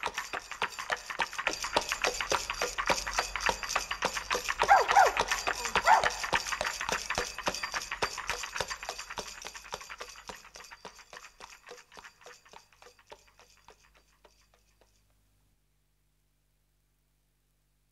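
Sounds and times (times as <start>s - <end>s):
horse hoofbeats trotting: 0.0s - 15.1s.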